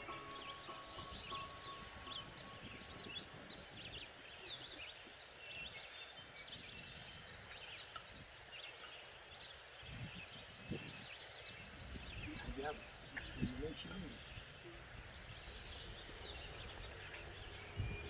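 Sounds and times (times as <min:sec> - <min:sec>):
light outdoor hiss: 0:00.0 - 0:18.0
small birds chirping: 0:00.0 - 0:18.0.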